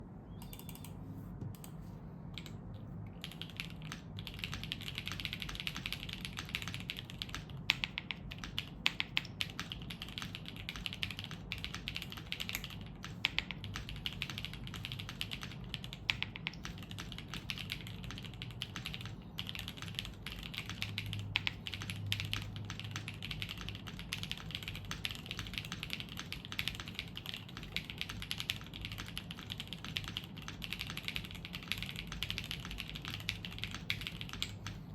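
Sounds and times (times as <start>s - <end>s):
mechanical keyboard typing: 0.4s - 2.6s, 3.2s - 34.9s.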